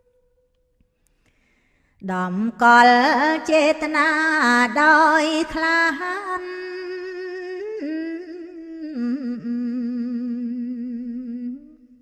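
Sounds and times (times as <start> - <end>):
woman chanting: 2.0 - 12.0.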